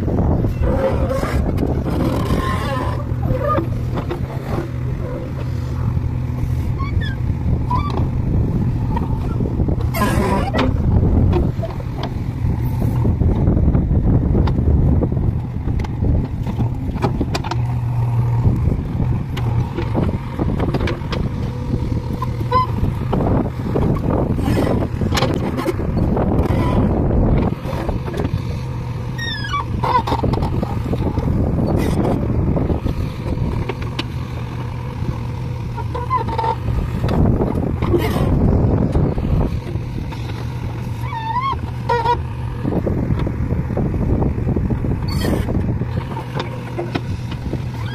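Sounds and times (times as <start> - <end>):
diesel engine running under load: 0.0 - 47.9
knocks of backhoe digging: 0.3 - 43.7, 44.8 - 47.9.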